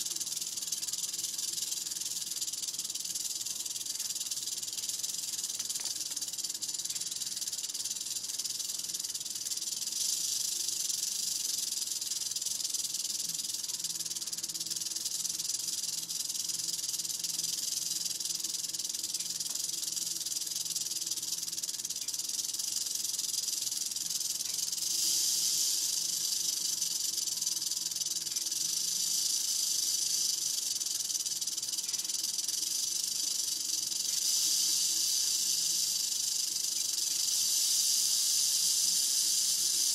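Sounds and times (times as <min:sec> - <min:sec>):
rattlesnake rattle buzzing: 0:00.0 - 0:39.9.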